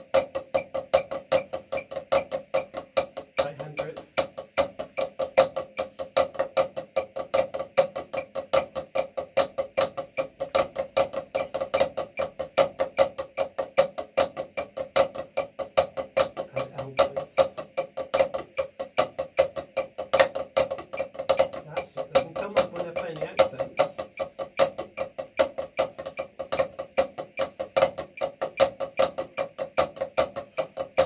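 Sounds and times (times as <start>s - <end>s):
drumsticks on practice pad: 0.0s - 31.0s.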